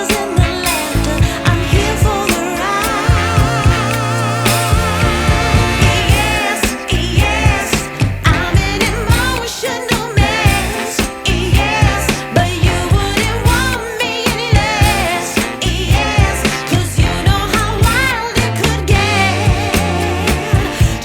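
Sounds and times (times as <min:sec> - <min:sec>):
song with vocals and heavy bass: 0:00.0 - 0:21.0.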